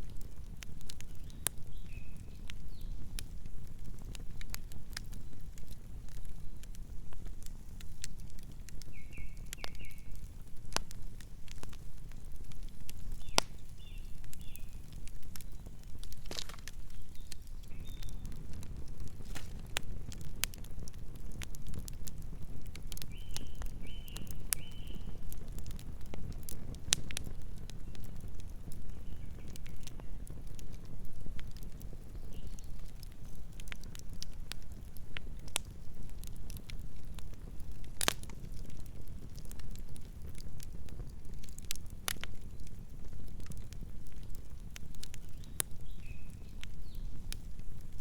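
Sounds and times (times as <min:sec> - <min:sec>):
campfire crackling and popping: 0:00.0 - 0:48.0
low rumble of flames: 0:00.0 - 0:48.0.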